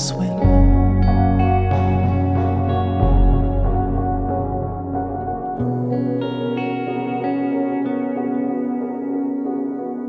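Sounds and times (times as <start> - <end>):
plucked guitar with echo: 0.0 - 10.0.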